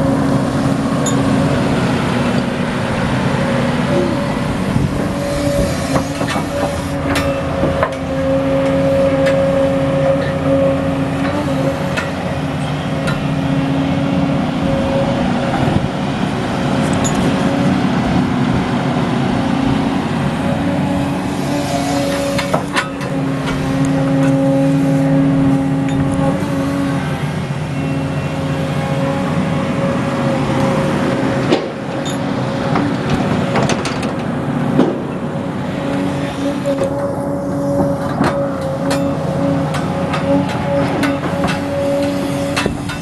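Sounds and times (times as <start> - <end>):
excavator diesel engine under load: 0.0 - 43.0.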